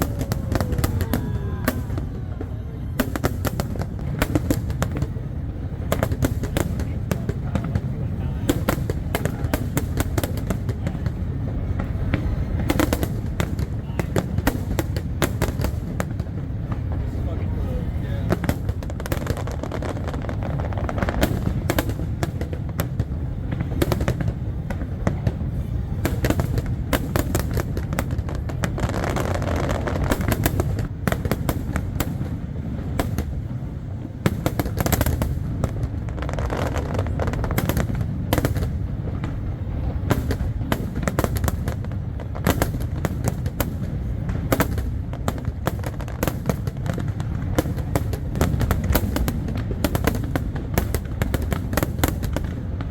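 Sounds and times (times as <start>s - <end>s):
fireworks crackling bangs: 0.0s - 52.9s
low rumble of fireworks booms: 0.0s - 52.9s.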